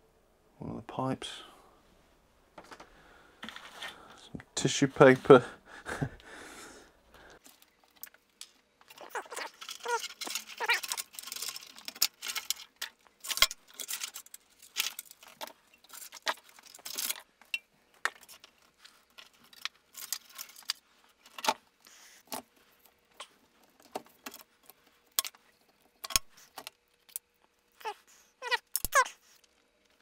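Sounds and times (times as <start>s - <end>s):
faint steady hum: 0.0s - 30.0s
cables and metal parts rustling: 2.5s - 5.4s, 7.1s - 30.0s.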